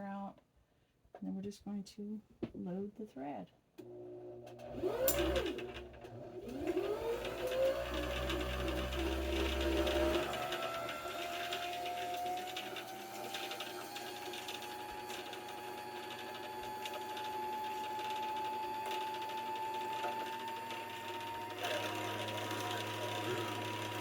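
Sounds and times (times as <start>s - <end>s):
sewing machine motor whine: 3.8s - 24.0s.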